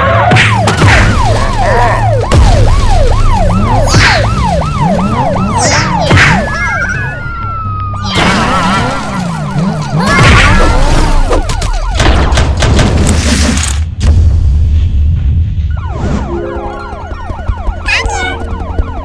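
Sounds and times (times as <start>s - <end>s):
cartoon police siren: 0.0s - 12.2s, 15.7s - 19.0s.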